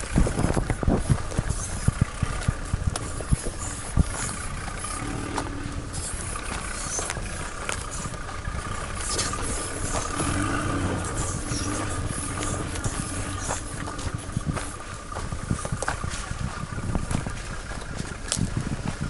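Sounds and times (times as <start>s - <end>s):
vehicle engine at low revs: 0.0s - 19.0s.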